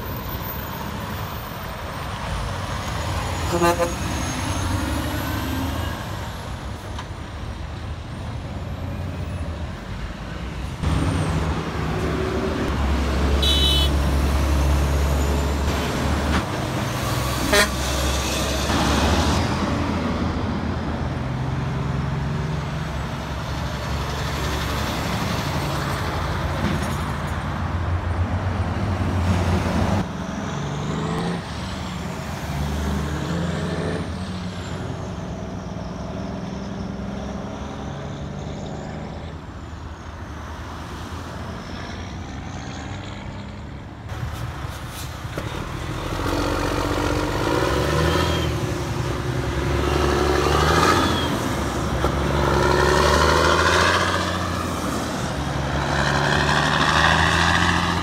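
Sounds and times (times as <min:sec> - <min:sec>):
diesel truck engines accelerating: 0:00.0 - 0:58.0
passing road traffic: 0:00.0 - 0:58.0.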